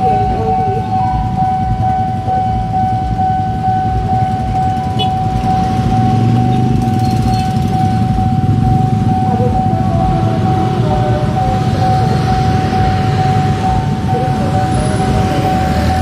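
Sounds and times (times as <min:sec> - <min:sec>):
level-crossing alarm tone: 0:00.0 - 0:16.0
motorcycle engines idling: 0:00.0 - 0:16.0.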